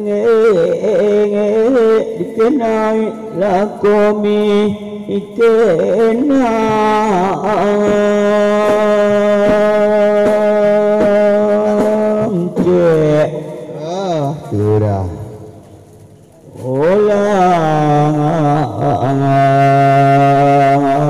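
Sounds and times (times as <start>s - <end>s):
man chanting melismatically: 0.0s - 15.6s, 16.4s - 21.0s.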